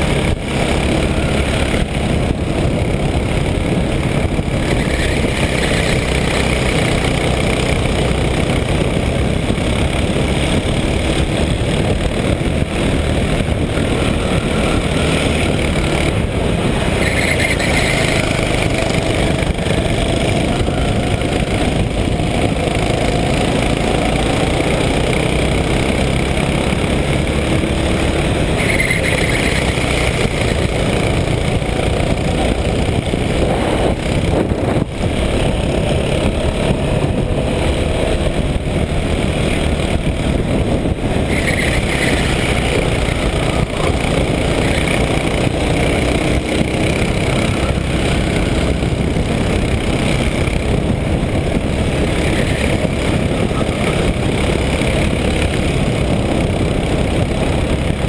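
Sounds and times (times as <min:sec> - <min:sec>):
go-kart engine running flat out: 0:00.0 - 0:58.0
rushing noise: 0:00.0 - 0:58.0.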